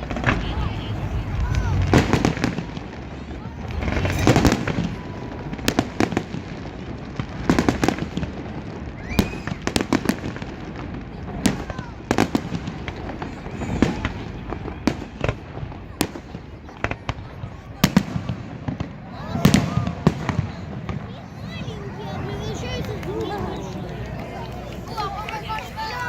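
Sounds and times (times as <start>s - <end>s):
fireworks bursting with bangs: 0.0s - 26.0s
fireworks crackling: 0.0s - 26.0s.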